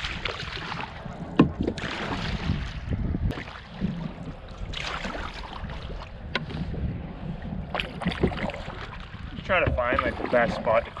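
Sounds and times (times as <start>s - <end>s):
paddle swishing water: 0.0s - 11.0s
wind rumble on microphone: 0.0s - 11.0s.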